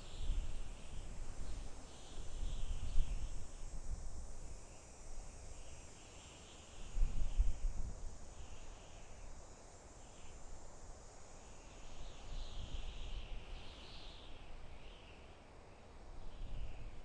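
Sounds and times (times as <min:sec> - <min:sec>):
high insect drone: 0:00.0 - 0:17.0
wind blowing through forest: 0:00.0 - 0:17.0.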